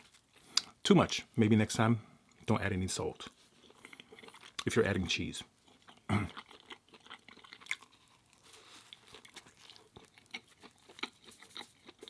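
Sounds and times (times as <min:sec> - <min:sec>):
chewing crunchy food: 0:00.0 - 0:00.8, 0:02.2 - 0:12.0.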